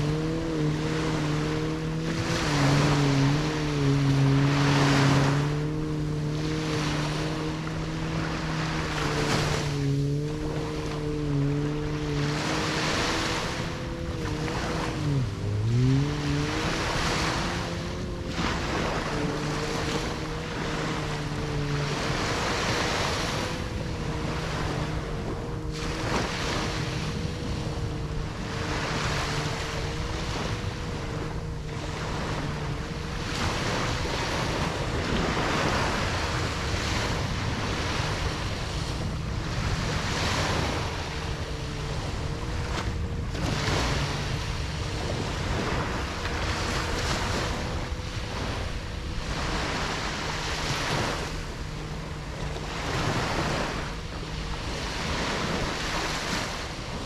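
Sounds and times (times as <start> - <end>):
faint wavering hum: 0.0 - 57.0
low wind rumble: 0.0 - 57.0
waves breaking: 0.0 - 57.0.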